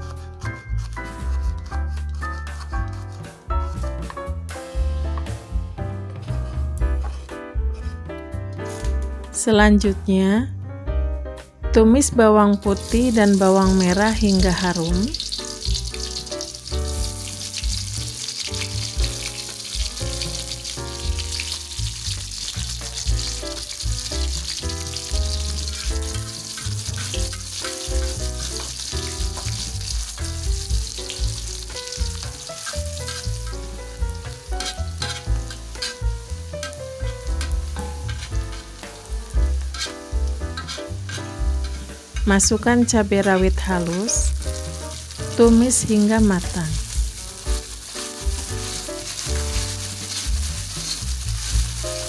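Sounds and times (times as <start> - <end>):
garlic sizzling in hot oil: 0.0 - 3.1, 12.1 - 52.0
spatula scraping a wok: 0.0 - 4.1, 6.2 - 9.0, 12.6 - 14.0, 14.7 - 46.1, 46.8 - 52.0.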